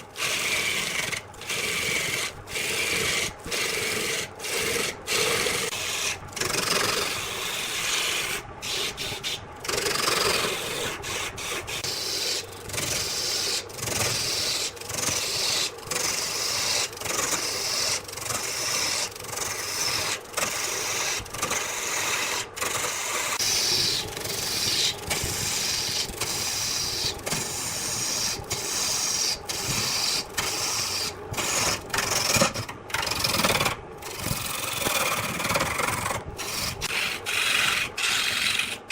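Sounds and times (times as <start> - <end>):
wood lathe tool rasping: 0.0 - 38.9.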